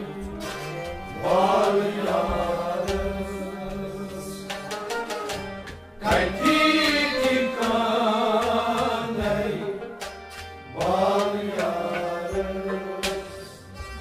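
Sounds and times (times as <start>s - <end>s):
man singing: 0.0s - 5.0s, 6.0s - 9.9s, 10.7s - 13.8s
harmonium tone: 0.0s - 14.0s
plucked strings: 0.0s - 14.0s.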